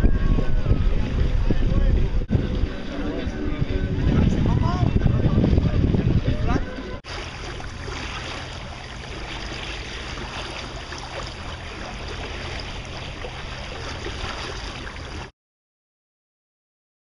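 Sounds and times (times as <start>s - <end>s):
water rushing: 0.0s - 15.3s
wind: 0.0s - 15.3s.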